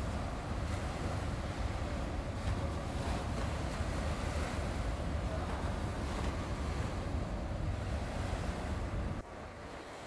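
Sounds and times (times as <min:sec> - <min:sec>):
sea waves washing: 0:00.0 - 0:10.0.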